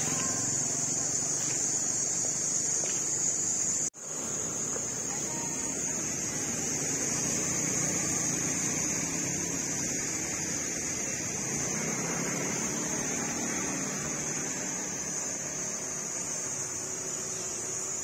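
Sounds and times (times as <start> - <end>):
motor scooter passing: 0.0 - 1.9, 5.1 - 17.9
steady high hiss: 0.0 - 18.0.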